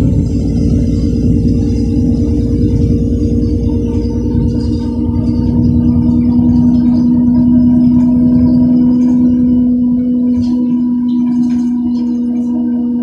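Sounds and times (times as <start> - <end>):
bus whine: 0.0 - 13.0
low drive rumble: 0.0 - 13.0.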